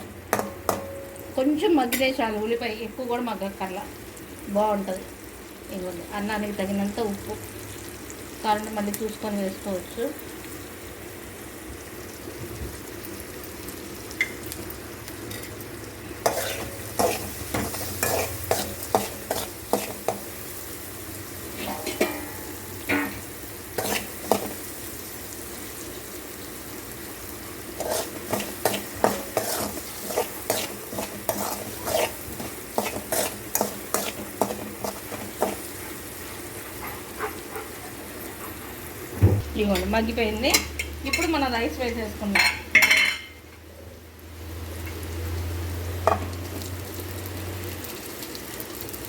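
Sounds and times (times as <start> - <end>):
onions sizzling in oil: 0.0 - 49.0.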